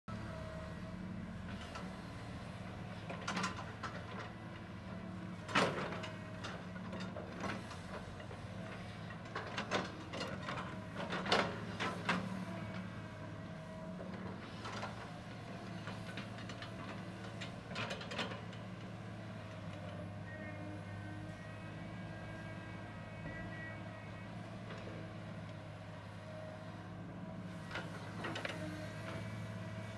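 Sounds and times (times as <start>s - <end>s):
excavator diesel engine running: 0.1s - 29.9s.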